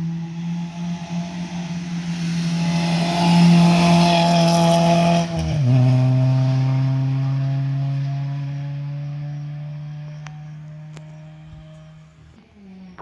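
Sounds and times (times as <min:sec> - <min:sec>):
rally car engine passing by: 0:00.0 - 0:13.0.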